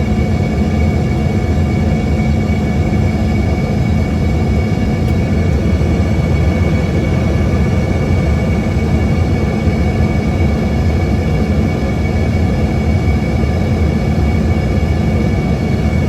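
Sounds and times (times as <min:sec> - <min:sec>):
aircraft cabin engine rumble: 0:00.0 - 0:16.0
high whine: 0:00.0 - 0:16.0.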